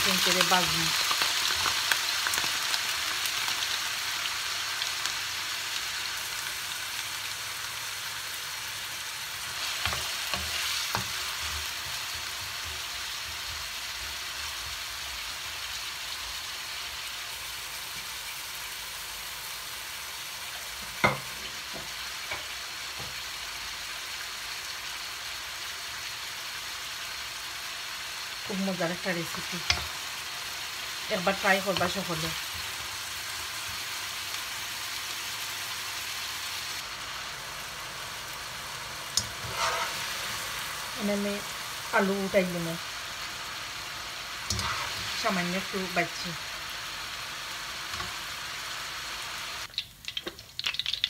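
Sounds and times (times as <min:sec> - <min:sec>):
potatoes sizzling in hot oil: 0:00.0 - 0:51.0.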